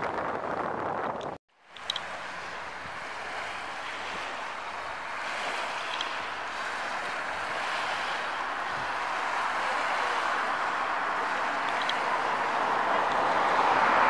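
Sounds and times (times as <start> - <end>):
small waves lapping on stones: 1.7 - 14.0.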